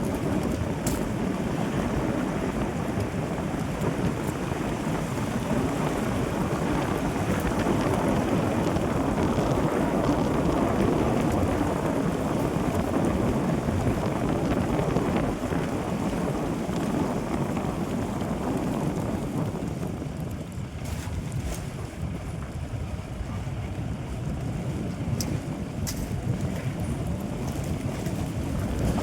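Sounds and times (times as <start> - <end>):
vehicle driving rumble: 0.0 - 29.0
wind buffeting microphone: 0.0 - 29.0.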